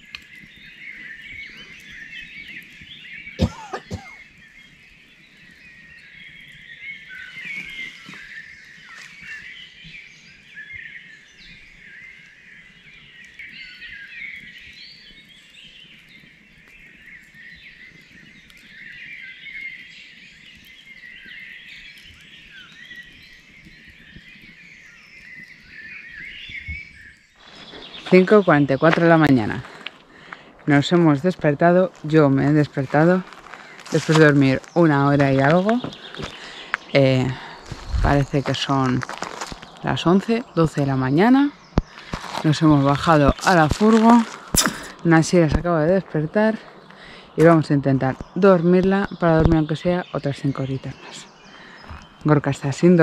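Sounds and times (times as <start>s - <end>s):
songbirds singing: 0.0s - 53.0s.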